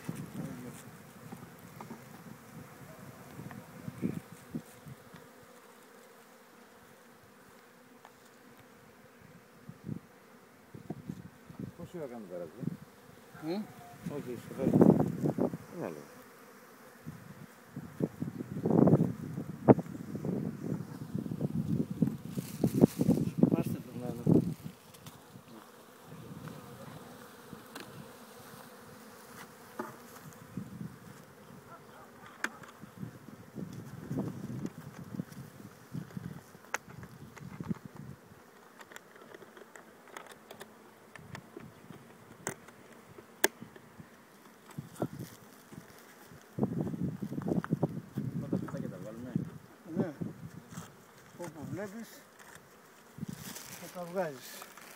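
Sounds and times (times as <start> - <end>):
bees buzzing: 0.0 - 48.9.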